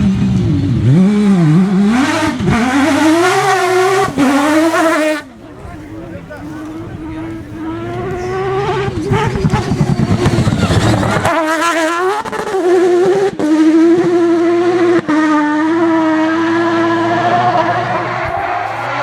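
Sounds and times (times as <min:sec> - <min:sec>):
rotary engine revving high: 0:00.0 - 0:05.4, 0:06.0 - 0:19.0.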